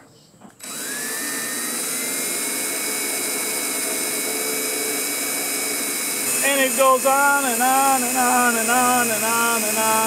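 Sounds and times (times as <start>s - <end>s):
cordless drill boring into metal: 0.6s - 10.0s.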